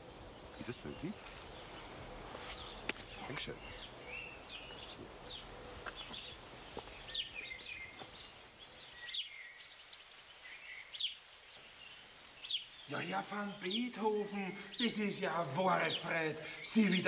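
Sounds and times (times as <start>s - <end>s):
low outdoor hiss: 0.0s - 17.0s
songbirds chirping: 0.0s - 17.0s.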